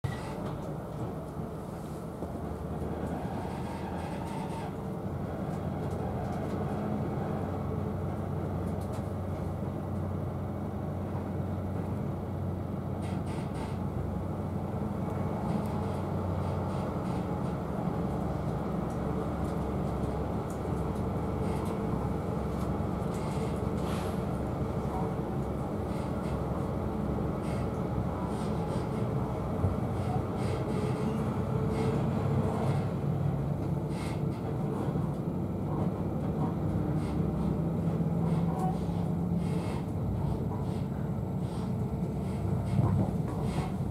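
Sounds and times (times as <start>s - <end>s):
train engine drone: 0.0s - 43.9s
train running gear rumble: 0.0s - 43.9s.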